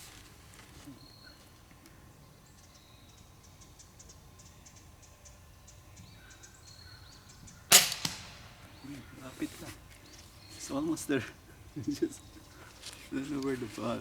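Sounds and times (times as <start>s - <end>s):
faint bird chirps: 0.7s - 7.7s, 8.3s - 14.0s.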